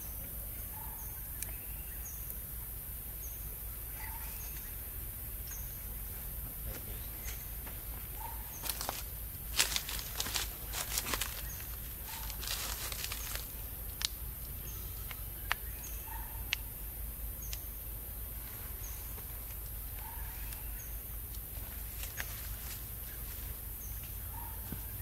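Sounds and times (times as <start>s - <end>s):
steady high hiss: 0.0s - 24.3s
rustles: 3.3s - 25.0s.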